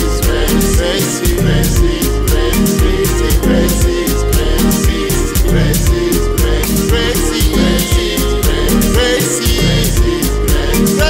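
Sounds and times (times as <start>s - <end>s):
pop song with drums and bass: 0.0s - 11.0s.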